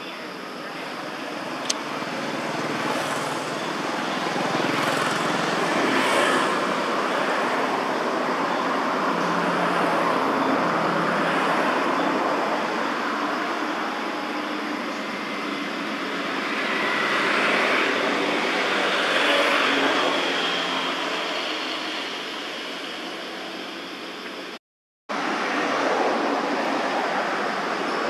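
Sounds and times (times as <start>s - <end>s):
road traffic rumble: 0.0s - 24.5s.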